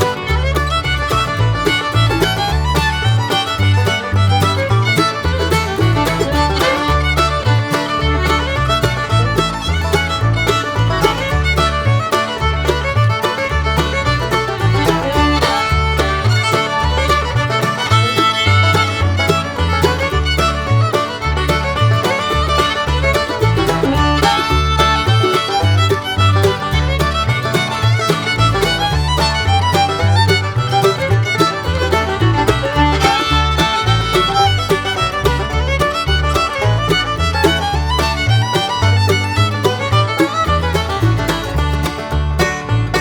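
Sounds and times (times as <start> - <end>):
bouncing bass line: 0.0 - 43.0
upbeat fiddle tune: 0.0 - 43.0.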